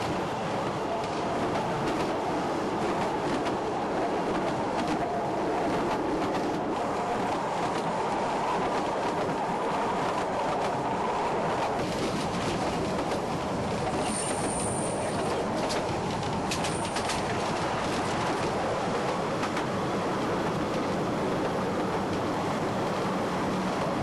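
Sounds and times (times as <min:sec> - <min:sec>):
rail clicks: 0:00.0 - 0:24.0
train rumble: 0:00.0 - 0:24.0.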